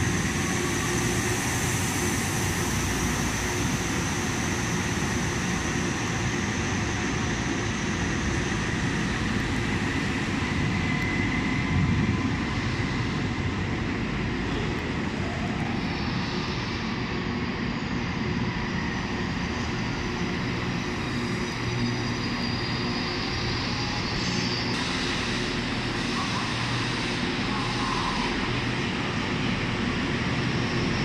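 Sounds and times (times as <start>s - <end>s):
train engine drone: 0.0s - 31.0s.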